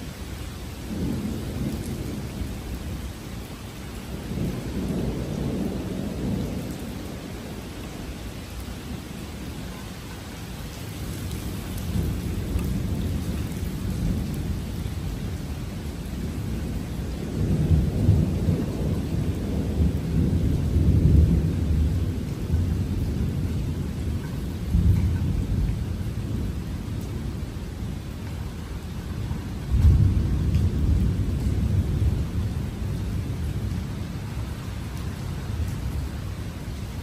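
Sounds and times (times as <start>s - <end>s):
rolling thunder: 0.8s - 8.3s, 10.8s - 37.0s.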